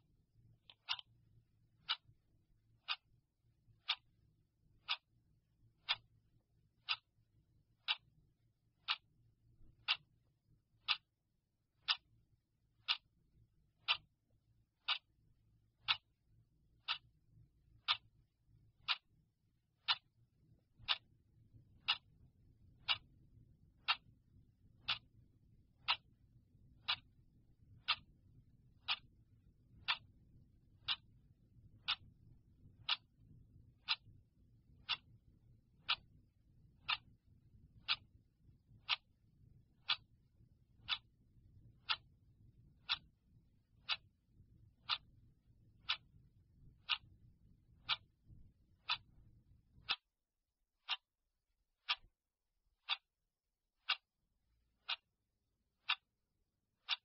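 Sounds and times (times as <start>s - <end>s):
clock ticking: 0.0s - 50.2s, 50.8s - 51.2s, 51.8s - 52.2s, 52.8s - 53.2s, 53.8s - 54.2s, 54.8s - 55.2s, 55.8s - 56.2s, 56.8s - 57.0s.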